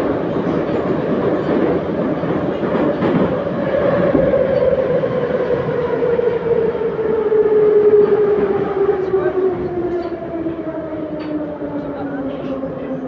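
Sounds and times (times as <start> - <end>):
metro train wheels rumbling: 0.0 - 13.0.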